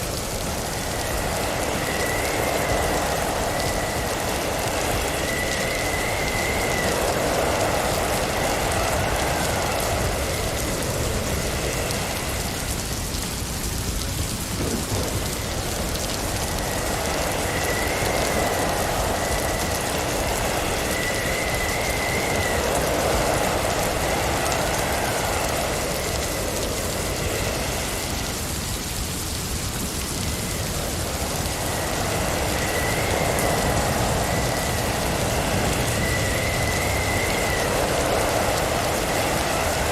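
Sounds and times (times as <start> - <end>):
faint high wind whistle: 0.0 - 39.9
snowstorm wind hiss: 0.0 - 39.9.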